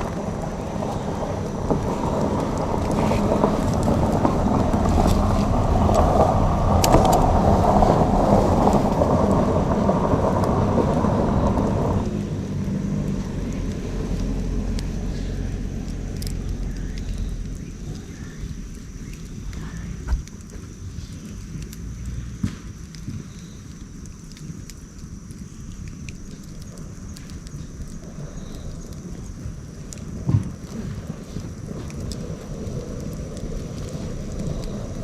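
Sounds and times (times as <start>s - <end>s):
campfire crackling: 0.0s - 35.0s
deep rumbling noise: 0.0s - 35.0s.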